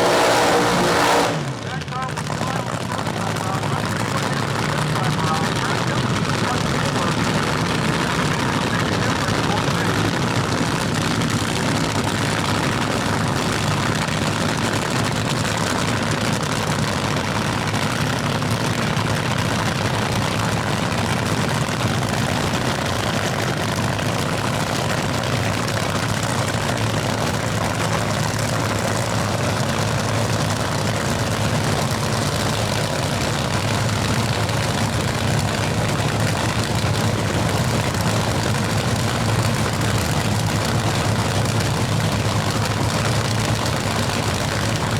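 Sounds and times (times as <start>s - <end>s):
drag racing engines rumbling: 0.0s - 44.9s.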